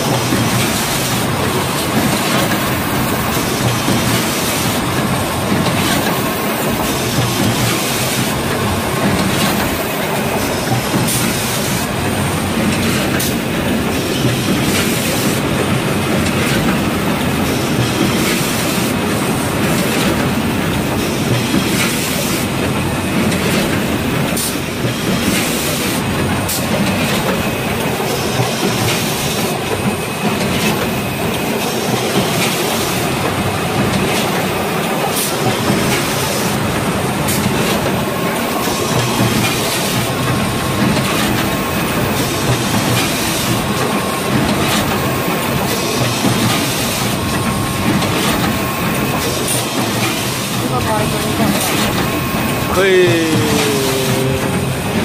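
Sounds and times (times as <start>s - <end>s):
machine clattering with clicks: 0.0s - 52.5s.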